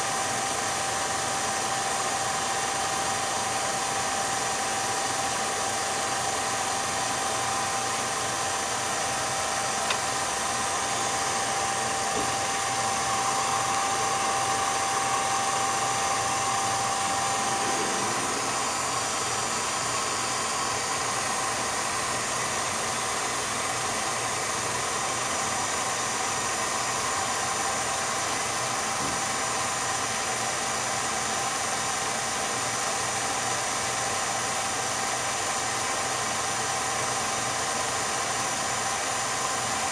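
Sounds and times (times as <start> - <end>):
film projector motor whirring: 0.0 - 39.9.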